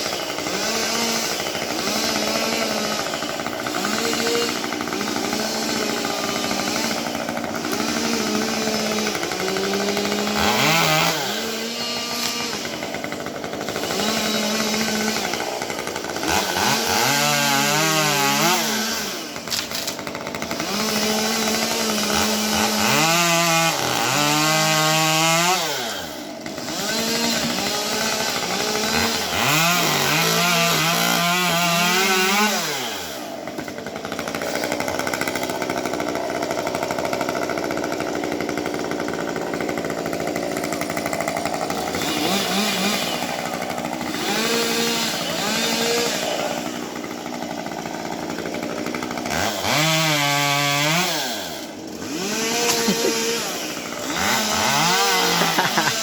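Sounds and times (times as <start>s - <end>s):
chainsaw running at high revs: 0.0s - 56.0s.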